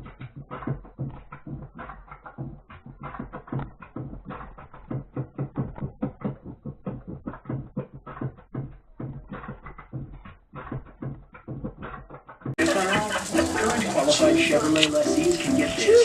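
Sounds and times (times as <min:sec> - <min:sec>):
turntable scratching: 0:00.0 - 0:16.0.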